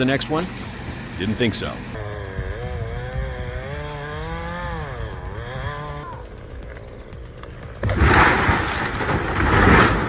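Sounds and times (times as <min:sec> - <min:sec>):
chainsaw engine running: 0:00.0 - 0:10.0.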